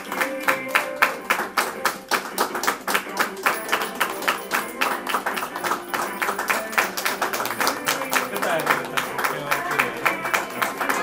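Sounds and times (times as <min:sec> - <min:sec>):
group clapping in rhythm: 0:00.0 - 0:11.0
guitar music: 0:00.0 - 0:11.0.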